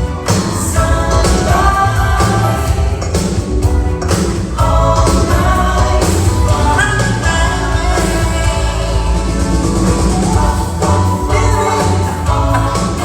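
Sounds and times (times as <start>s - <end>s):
person singing: 0.0s - 3.4s, 4.6s - 13.0s
live band playing pop song: 0.0s - 13.0s.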